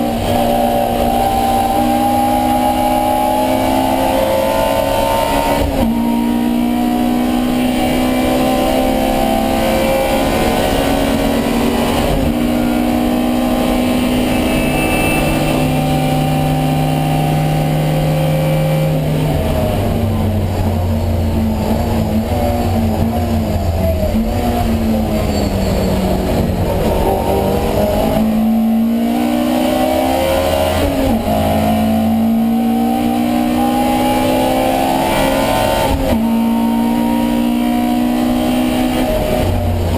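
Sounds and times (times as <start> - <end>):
racing car engine revving: 0.0 - 39.9.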